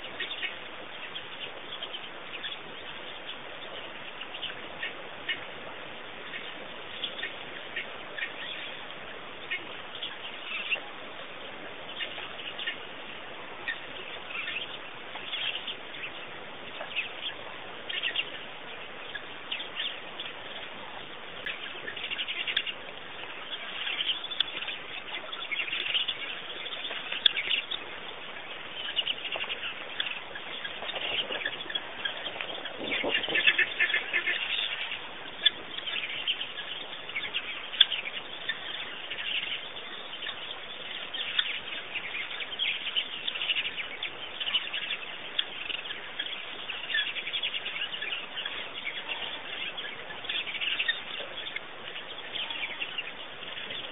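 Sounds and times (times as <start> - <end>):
small birds chirping: 0.0 - 53.9
steady hiss: 0.0 - 53.9.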